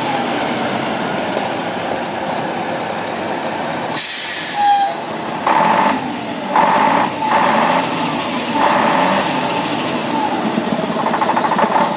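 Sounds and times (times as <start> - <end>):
diesel truck engine running: 0.0 - 11.9.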